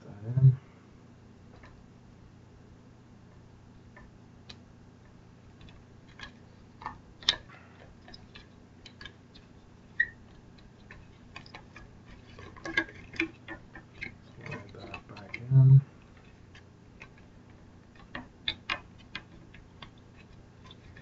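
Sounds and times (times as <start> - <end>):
small plastic clicks and rattles: 3.9 - 21.0.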